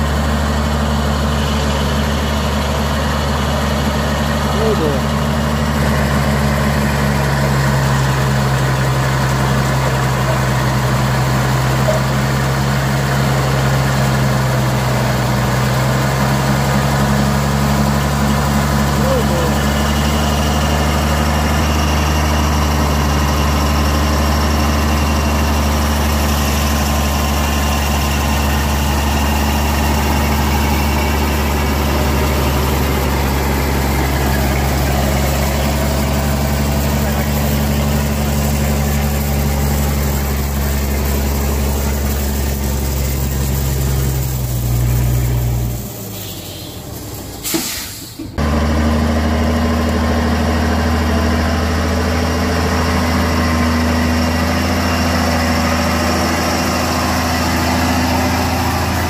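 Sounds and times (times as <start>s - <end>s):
heavy vehicle engine idling: 0.0s - 59.0s.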